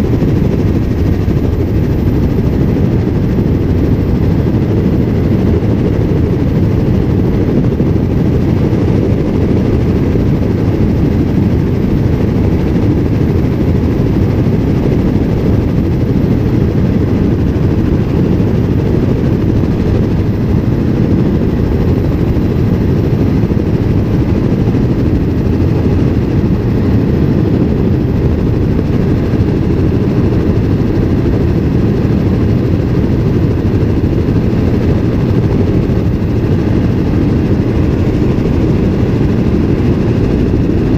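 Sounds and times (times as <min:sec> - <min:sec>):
helicopter rotor and engine noise: 0:00.0 - 0:40.9.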